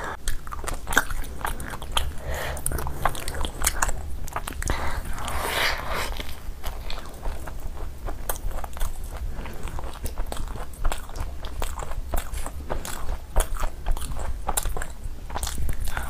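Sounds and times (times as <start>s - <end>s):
steady low hum: 0.0s - 16.0s
chewing crunchy snacks: 0.1s - 16.0s.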